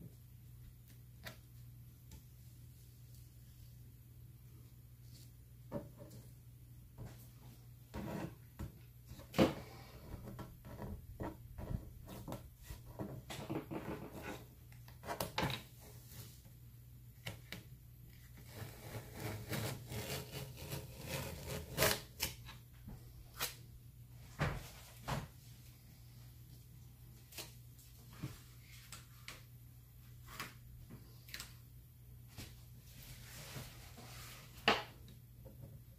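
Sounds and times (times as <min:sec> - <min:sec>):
low electrical hum: 0:00.0 - 0:35.9.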